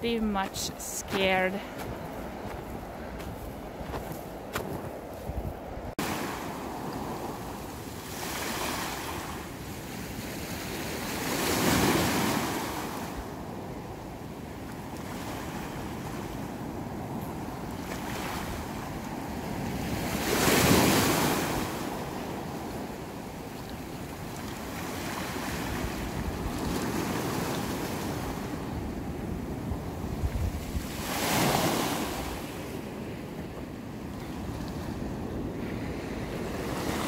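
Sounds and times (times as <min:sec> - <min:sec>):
icy waves washing ashore: 0:00.0 - 0:37.0
wind on microphone: 0:00.0 - 0:37.0.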